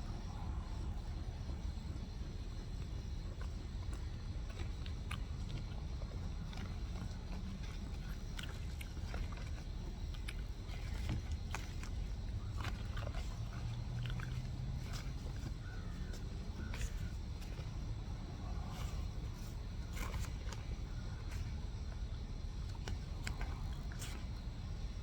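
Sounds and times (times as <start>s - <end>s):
chewing smacks: 1.9s - 25.0s.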